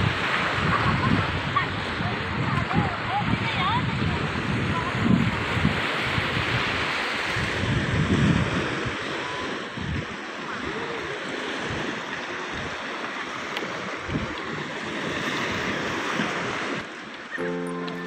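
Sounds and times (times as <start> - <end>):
wind buffeting microphone: 0.0 - 16.9
small waves on sandy shore: 0.0 - 18.0.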